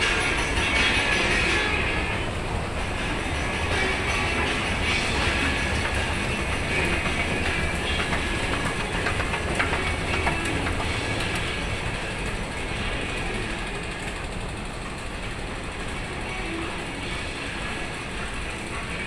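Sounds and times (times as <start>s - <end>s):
escalator and train rumble: 0.0s - 19.0s.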